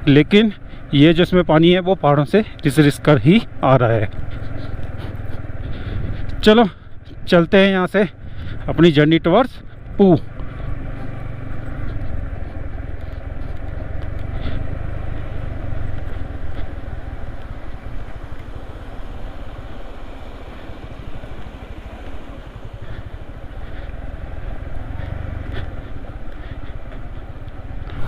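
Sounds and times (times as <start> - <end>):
motorcycle engine running: 0.0 - 28.0
road noise: 0.0 - 28.0.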